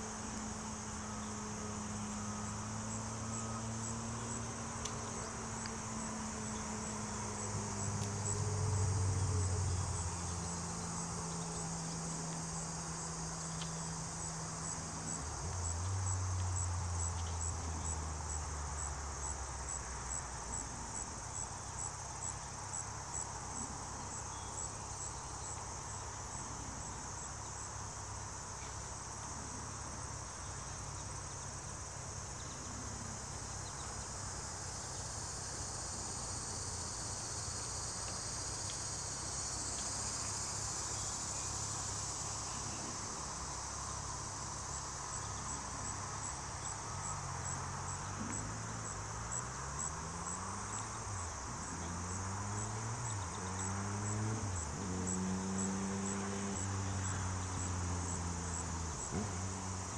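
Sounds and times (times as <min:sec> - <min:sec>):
insect chorus with pulsed chirp: 0:00.0 - 0:59.9.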